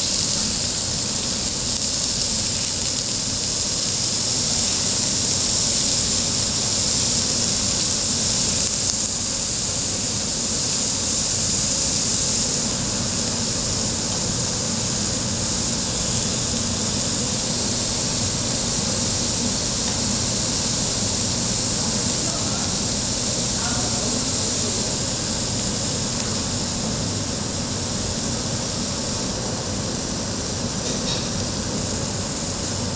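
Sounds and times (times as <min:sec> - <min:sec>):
beef sizzling on a grill: 0:00.0 - 0:32.9.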